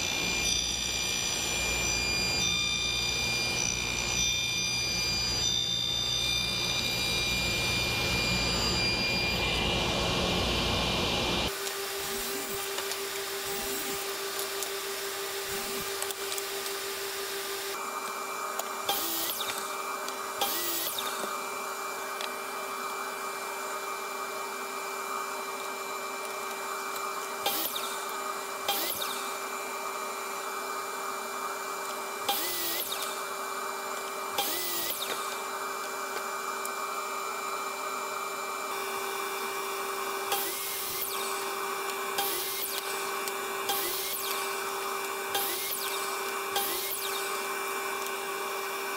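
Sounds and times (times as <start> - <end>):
dust collector droning: 0.0 - 48.9
miter saw cutting plywood: 0.0 - 48.9.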